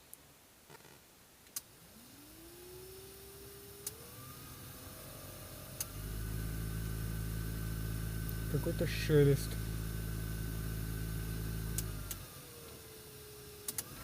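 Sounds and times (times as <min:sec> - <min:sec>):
blower fan motor whine: 0:01.8 - 0:14.0.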